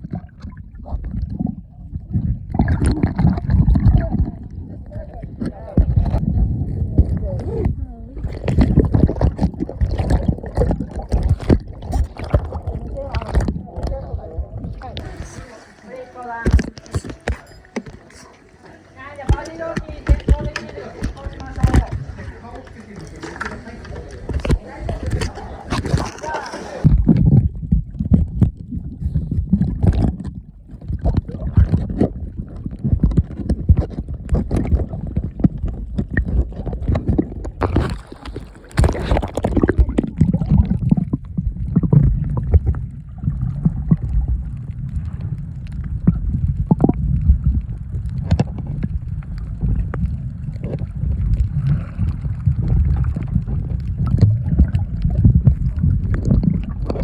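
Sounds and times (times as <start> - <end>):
low rumble: 0.0 - 15.9, 26.8 - 57.0
water sloshing and gurgling: 0.0 - 57.0
water splashing: 0.0 - 57.0.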